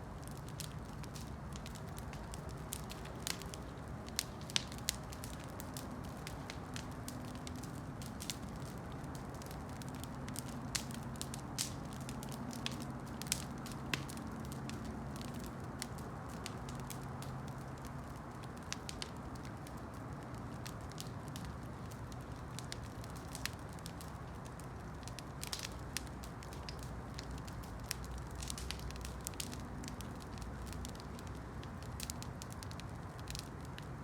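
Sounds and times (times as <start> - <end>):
campfire crackling and popping: 0.0 - 34.0
low hiss of fire: 0.0 - 34.0.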